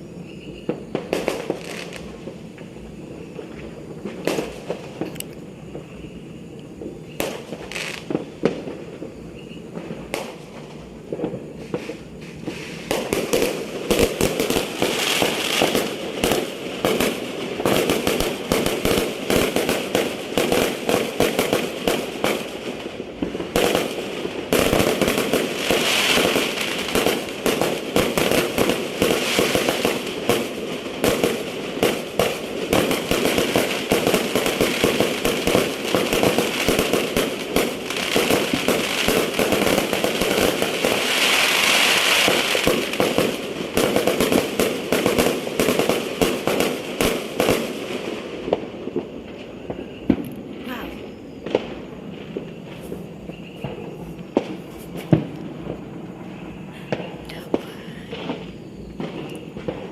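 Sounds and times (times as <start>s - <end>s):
fireworks bangs and crackle: 0.0s - 59.9s.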